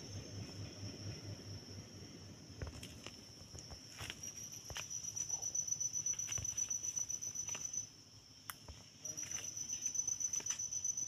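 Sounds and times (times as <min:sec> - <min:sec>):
insect trilling: 0:00.0 - 0:08.0, 0:08.6 - 0:11.0.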